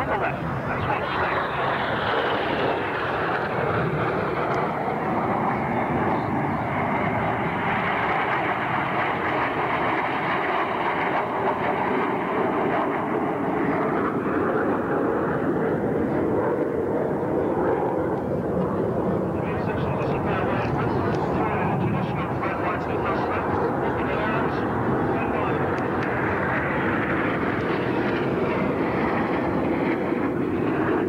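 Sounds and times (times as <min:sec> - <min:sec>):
jets flying past: 0:00.0 - 0:31.0.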